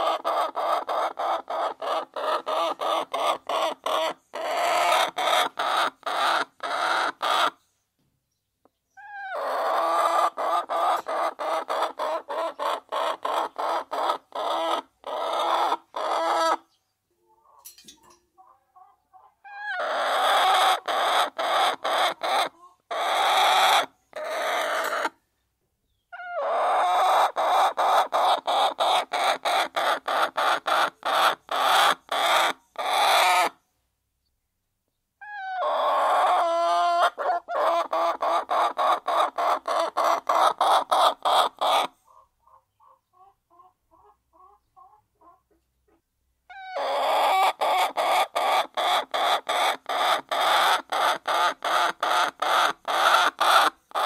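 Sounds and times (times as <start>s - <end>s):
hens clucking: 0.0s - 7.6s, 9.0s - 25.2s, 26.1s - 33.6s, 35.2s - 54.0s.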